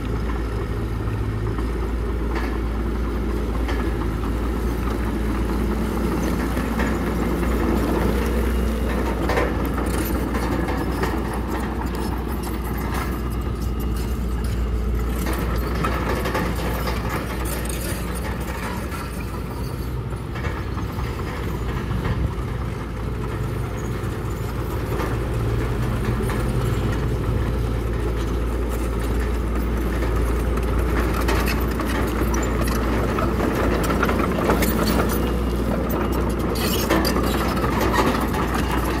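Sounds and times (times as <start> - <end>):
bulldozer diesel engine running: 0.0 - 39.0
steel track links clattering: 3.5 - 39.0.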